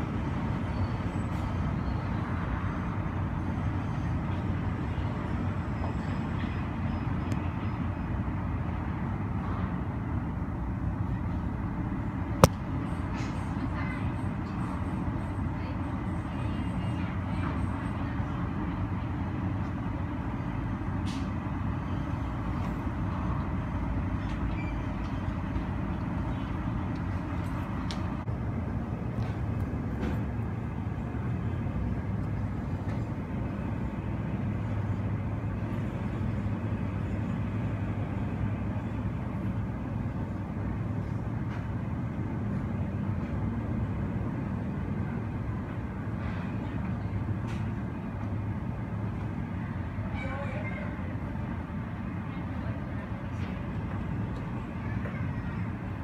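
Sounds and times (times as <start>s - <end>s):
airport engine drone: 0.0s - 56.0s.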